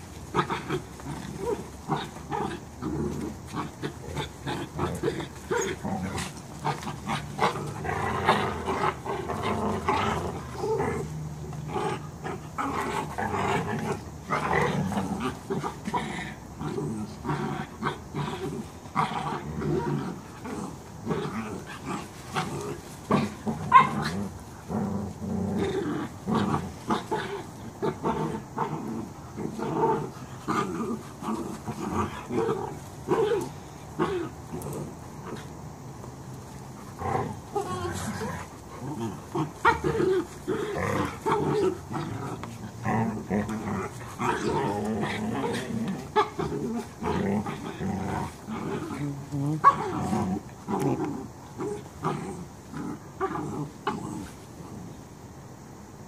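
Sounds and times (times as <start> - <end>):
dogs snapping and scuffling: 0.0 - 54.7
dogs growling while play-fighting: 0.0 - 55.0.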